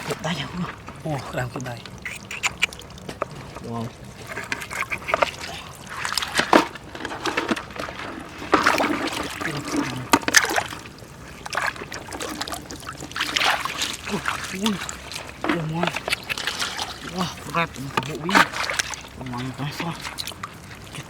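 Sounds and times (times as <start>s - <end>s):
water sloshing and splashing: 0.0s - 21.0s
water trickling: 0.0s - 21.0s.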